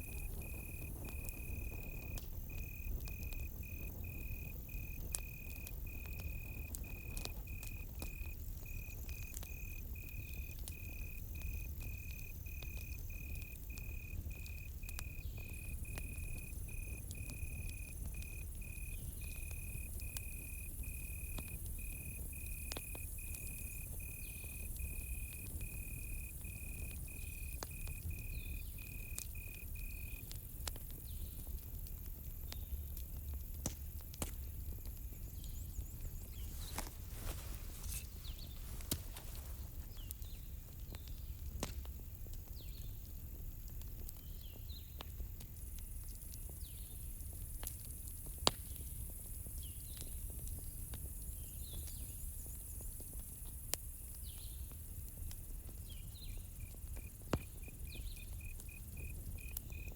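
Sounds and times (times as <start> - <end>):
crickets chirping: 0.0 - 31.2, 34.5 - 40.8, 45.5 - 59.9
campfire crackling and popping: 0.0 - 59.9.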